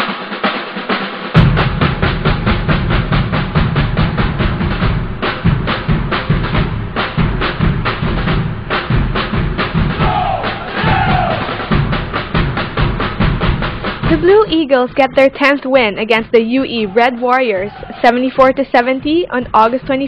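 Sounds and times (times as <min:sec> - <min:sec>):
intro music with fast drum hits: 0:00.0 - 0:20.0.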